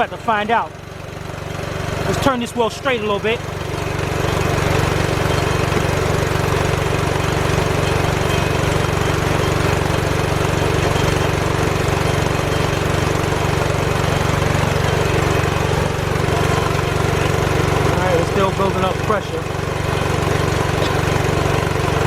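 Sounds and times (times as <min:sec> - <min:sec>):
air compressor running: 0:00.0 - 0:22.0.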